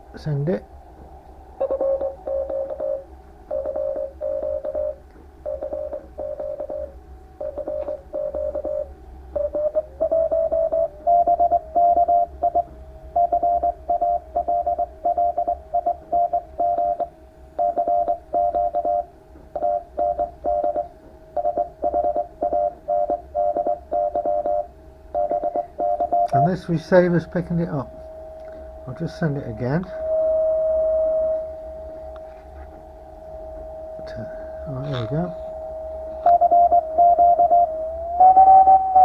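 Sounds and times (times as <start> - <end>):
steady low hum: 0.0 - 39.0
morse code tone: 1.6 - 39.0.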